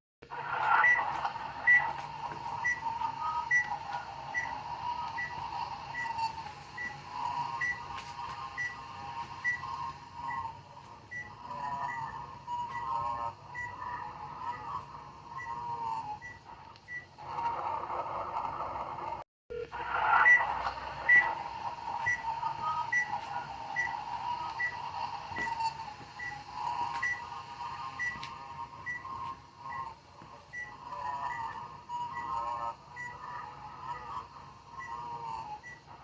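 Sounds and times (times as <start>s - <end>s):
warbling electronic tone: 0.4s - 16.5s, 19.7s - 35.5s.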